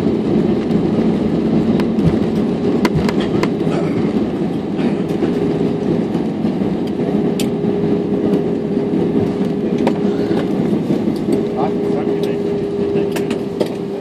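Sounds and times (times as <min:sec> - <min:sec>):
aircraft engine and rolling hum: 0:00.0 - 0:14.0.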